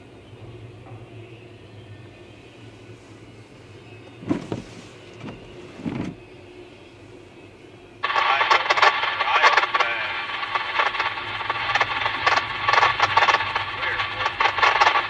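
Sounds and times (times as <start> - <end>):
freight train low rumble: 0.0 - 15.0.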